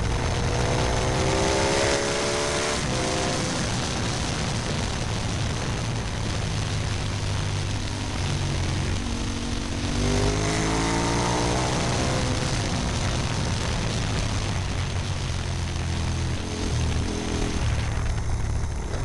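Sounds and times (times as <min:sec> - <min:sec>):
motorcycle engine: 0:00.0 - 0:19.0
wind rush: 0:00.0 - 0:19.0.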